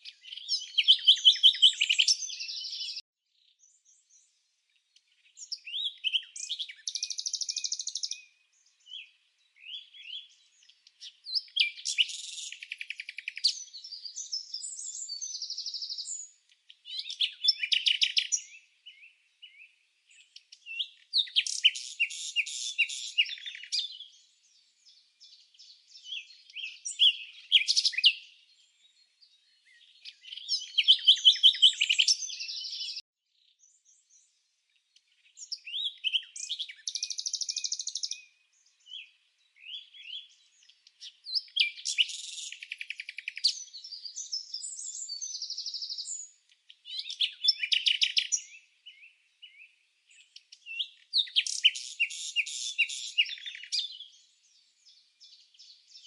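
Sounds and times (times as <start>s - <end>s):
bird chirps and trills: 0.0s - 4.3s, 5.1s - 34.3s, 35.1s - 56.0s.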